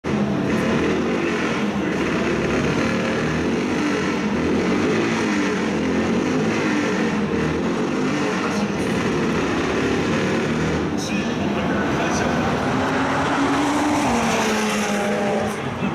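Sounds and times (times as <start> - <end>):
car engine running: 0.0 - 15.9.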